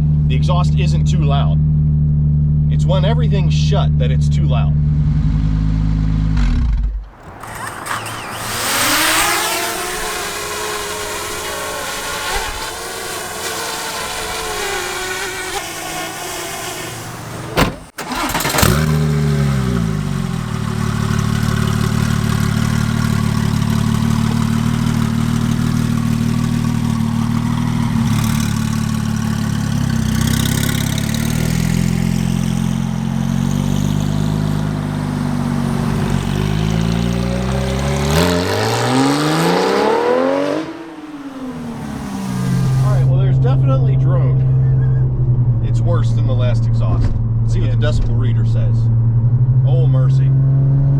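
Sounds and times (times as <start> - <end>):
car engine revving: 0.0 - 50.9
low exhaust drone: 0.0 - 50.9.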